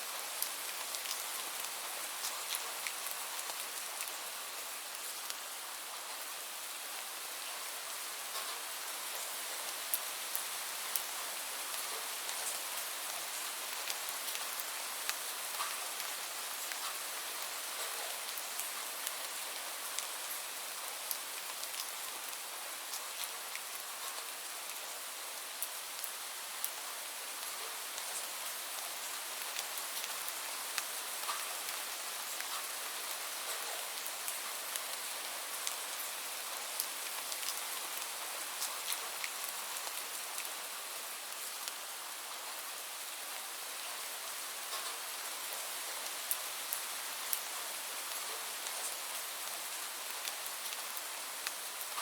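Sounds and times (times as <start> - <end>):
raindrops ticking on a surface: 0.1 - 52.0.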